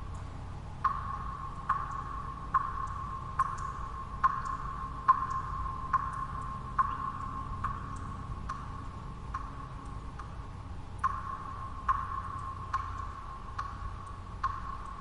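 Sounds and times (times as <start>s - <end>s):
faint small ticks: 0.0s - 15.0s
steady white noise: 0.0s - 15.0s
water drops falling: 0.1s - 10.4s, 11.0s - 15.0s.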